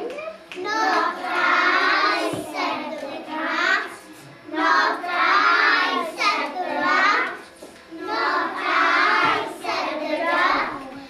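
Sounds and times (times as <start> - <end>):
children chanting in unison: 0.6 - 11.0.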